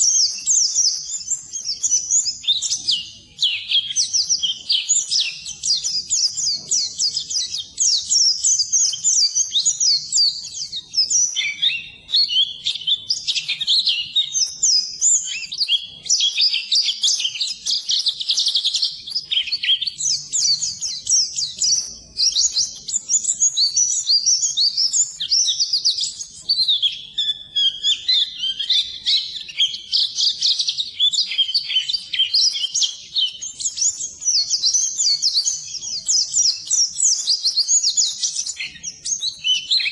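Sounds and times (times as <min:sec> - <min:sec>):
white-eye twittering song: 0:00.0 - 0:39.9.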